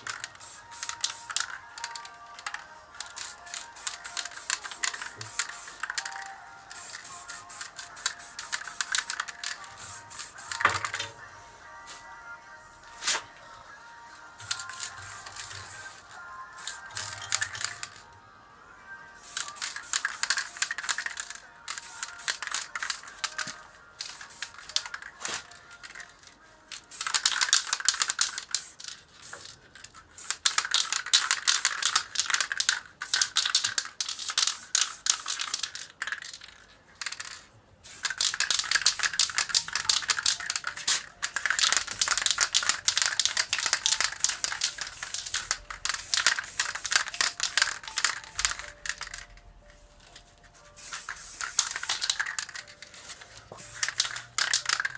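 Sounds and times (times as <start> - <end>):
spray paint can rattling and hissing: 0.0 - 11.2, 14.3 - 18.1, 19.2 - 54.9
background music: 0.0 - 54.9.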